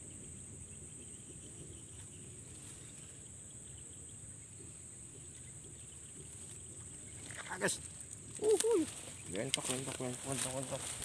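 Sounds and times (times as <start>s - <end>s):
insects droning: 0.0s - 11.0s
low rumble of wind: 0.0s - 11.0s.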